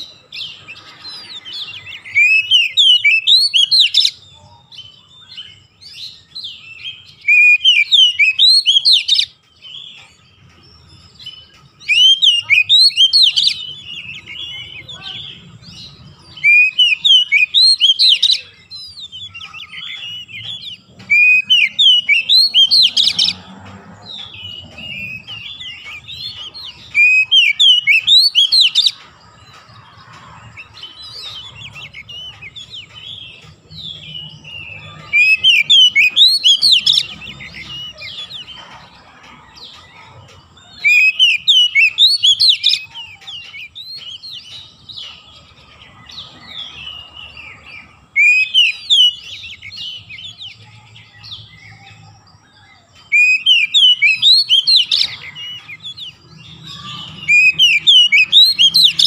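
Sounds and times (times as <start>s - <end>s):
bird whistled song: 0.0s - 38.9s, 39.6s - 59.0s
bird twittering: 0.0s - 59.0s.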